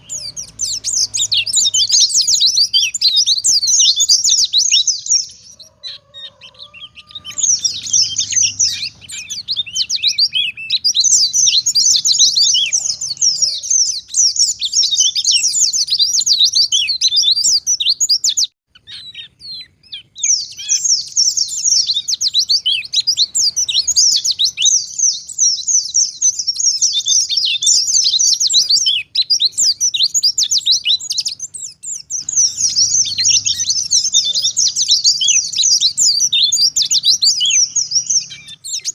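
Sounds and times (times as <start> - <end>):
bird twittering warble: 0.0 - 38.9.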